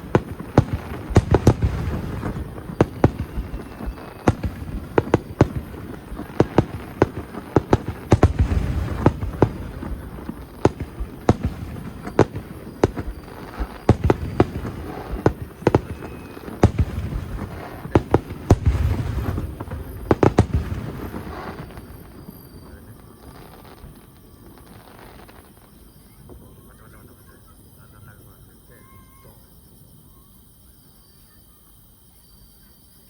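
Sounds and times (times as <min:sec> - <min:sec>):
fireworks bursting: 0:00.0 - 0:27.7.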